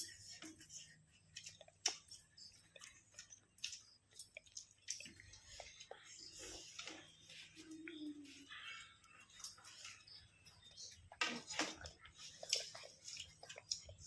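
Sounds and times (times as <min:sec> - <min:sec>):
chewing: 0:00.0 - 0:14.0
clicks and squishes of food: 0:00.0 - 0:14.0
faint low hum: 0:00.0 - 0:14.0.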